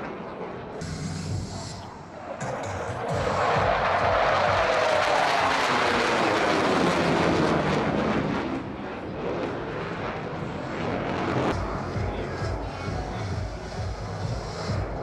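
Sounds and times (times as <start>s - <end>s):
jet aircraft passing: 0.0s - 15.0s.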